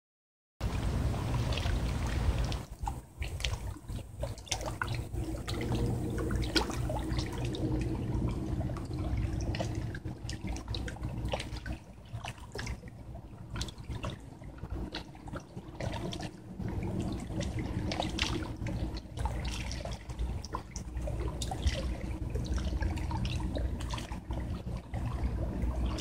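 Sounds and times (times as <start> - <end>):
waves lapping against stones: 0.6 - 26.0
low rumble: 4.0 - 26.0.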